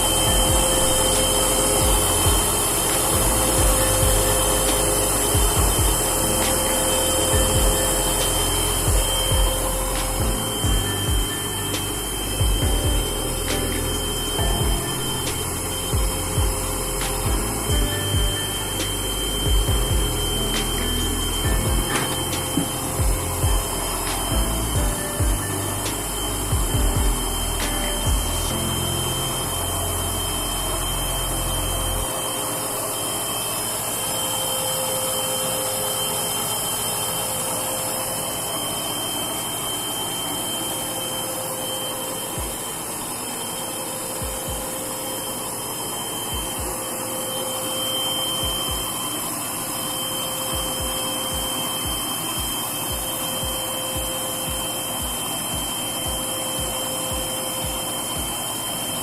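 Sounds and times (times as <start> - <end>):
washing machine spin cycle: 0.0 - 59.0.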